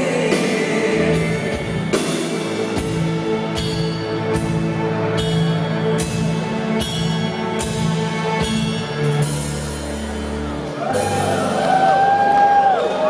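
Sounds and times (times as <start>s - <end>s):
drum or cymbal accents: 0.0s - 11.6s
live band playing chords: 0.0s - 13.0s.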